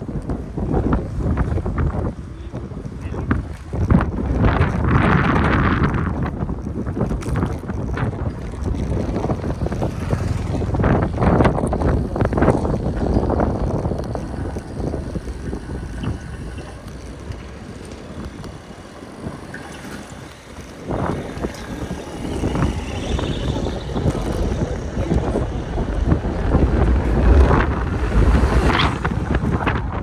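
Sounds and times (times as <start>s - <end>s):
city street ambience: 0.0s - 30.0s
wind buffeting microphone: 0.0s - 30.0s.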